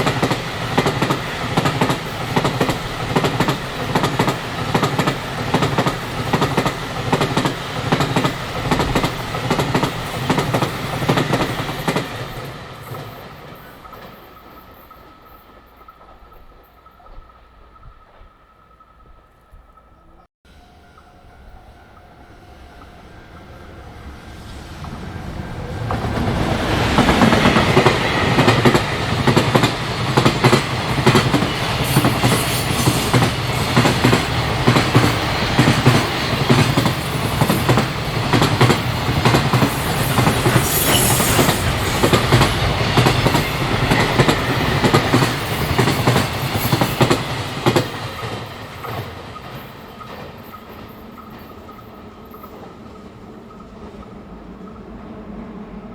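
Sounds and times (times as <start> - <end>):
high squeal of train wheels: 0.0 - 55.9.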